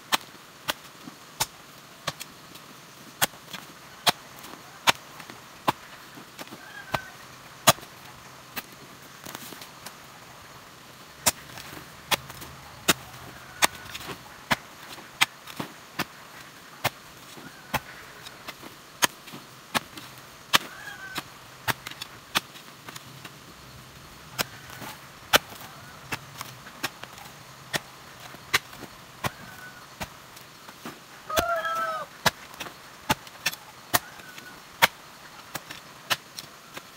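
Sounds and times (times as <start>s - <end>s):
metal hoe striking stony soil: 0.1s - 2.3s, 3.2s - 10.0s, 11.2s - 36.9s
earth scraping: 3.4s - 36.9s.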